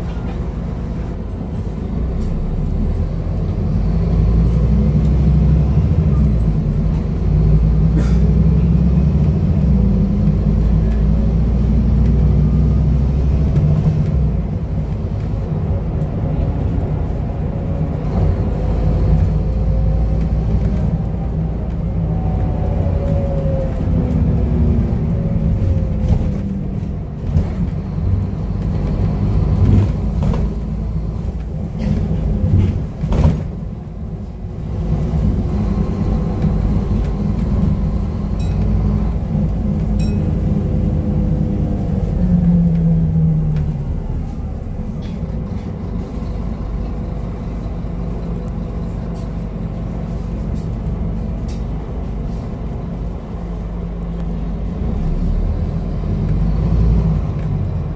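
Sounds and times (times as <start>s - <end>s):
bus diesel engine drone: 0.0s - 57.9s.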